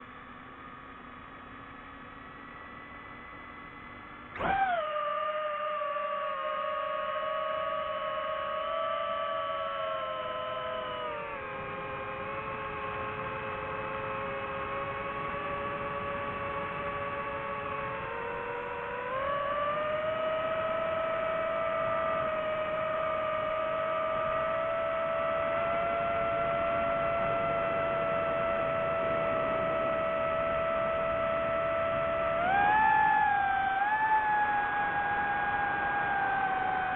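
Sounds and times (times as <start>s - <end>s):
drone propellers whining: 2.3s - 36.9s.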